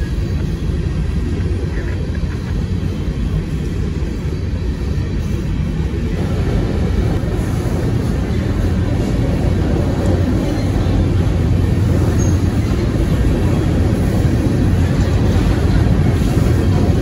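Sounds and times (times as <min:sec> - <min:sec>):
freight train wheels rumbling on rail: 0:00.0 - 0:17.0.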